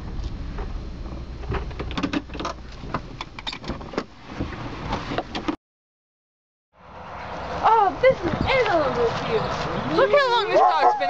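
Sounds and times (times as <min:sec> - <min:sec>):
car rumbling: 0:00.0 - 0:05.6, 0:06.8 - 0:11.0.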